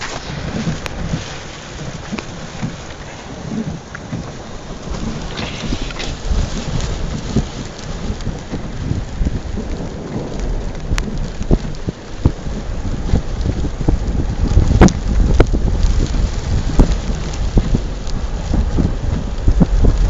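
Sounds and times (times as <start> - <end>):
low rumble of thunder: 0.0 - 20.0
rain falling: 0.0 - 20.0.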